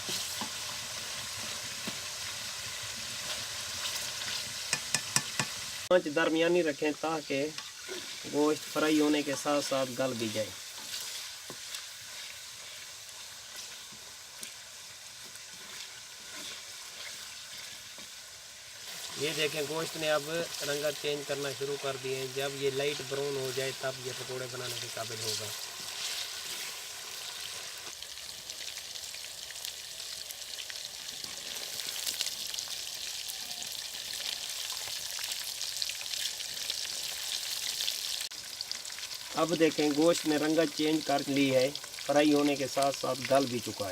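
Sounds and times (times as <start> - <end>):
chicken sizzling in hot oil: 0.0 - 43.9
small crackles of frying: 0.0 - 43.9.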